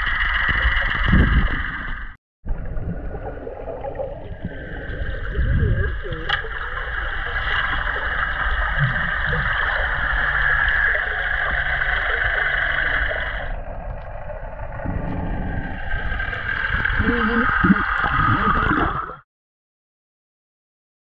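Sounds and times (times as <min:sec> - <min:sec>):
water noise: 0:00.0 - 0:19.2.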